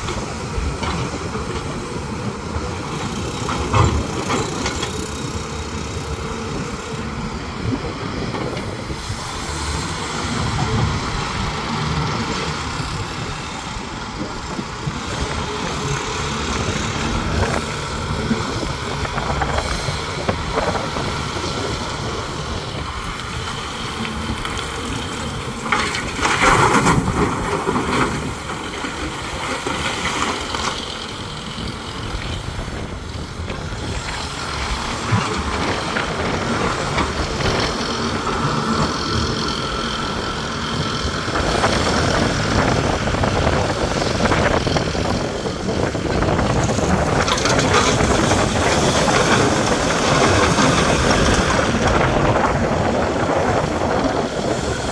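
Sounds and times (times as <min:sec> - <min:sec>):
heavy diesel machine engine: 0:00.0 - 0:54.9.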